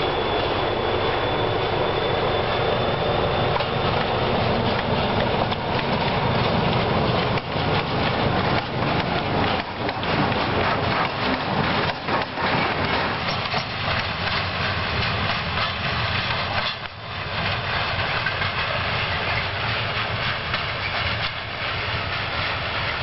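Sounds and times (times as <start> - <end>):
train wheels clacking on rails: 2.7 - 23.0.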